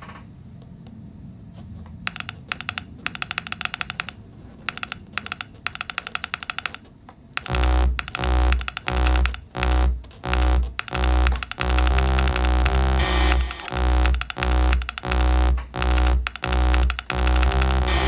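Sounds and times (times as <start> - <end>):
low room noise: 0.0 - 18.0
typing on laptop keyboard: 2.0 - 18.0.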